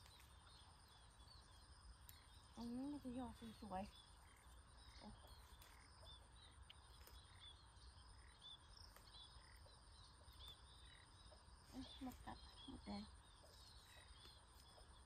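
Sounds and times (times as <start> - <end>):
frogs or insects chirping: 0.0 - 15.0.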